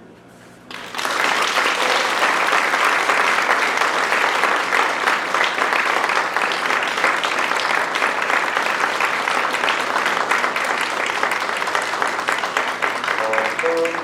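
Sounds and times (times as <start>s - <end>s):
audience applauding: 0.7s - 14.0s.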